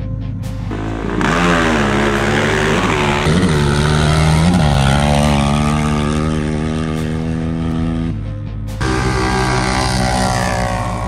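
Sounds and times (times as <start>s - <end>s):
atv engines at full throttle: 0.6s - 11.0s.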